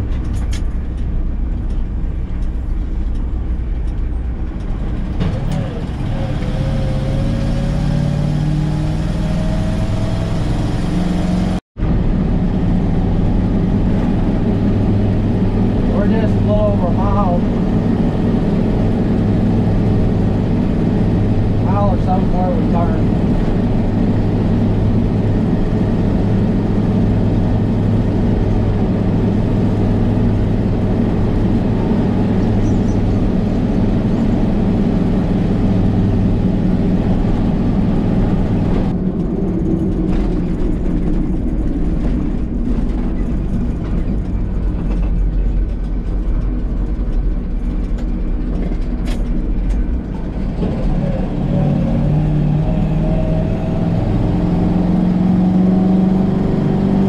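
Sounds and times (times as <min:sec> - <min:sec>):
road noise: 0:00.0 - 0:57.0
truck engine under load: 0:00.0 - 0:57.0.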